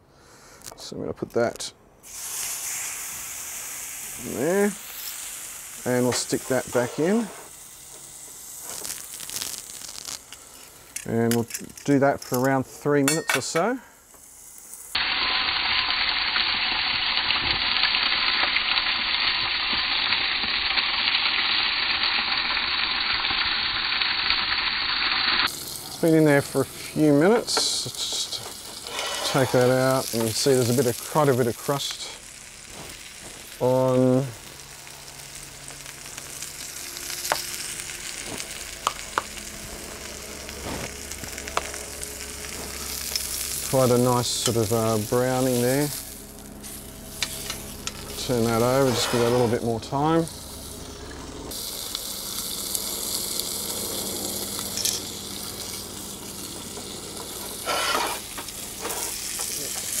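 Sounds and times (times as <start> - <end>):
steak sizzling in a skillet: 2.0 - 11.0, 14.1 - 60.0.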